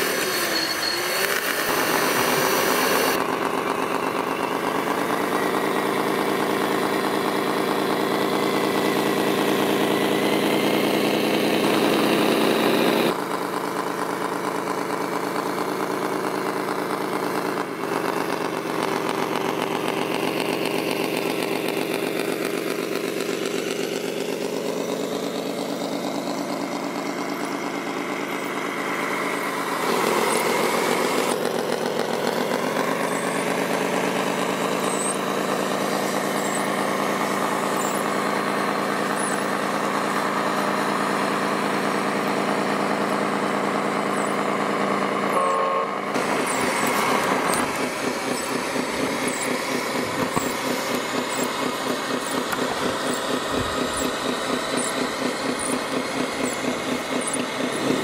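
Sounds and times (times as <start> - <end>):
toy truck engine drone: 0.0 - 58.0.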